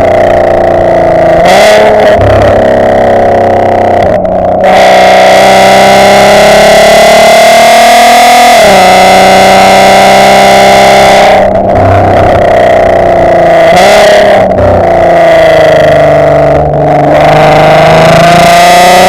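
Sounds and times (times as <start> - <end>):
loud car exhaust while driving: 0.0 - 19.0.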